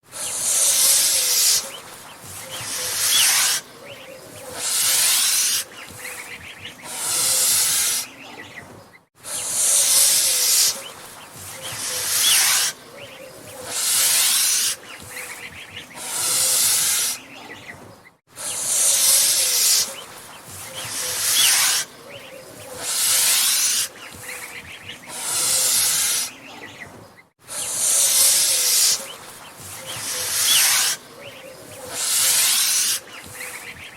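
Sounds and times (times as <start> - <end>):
goose hissing: 0.0 - 8.4, 9.2 - 17.6, 18.3 - 26.6, 27.4 - 33.9.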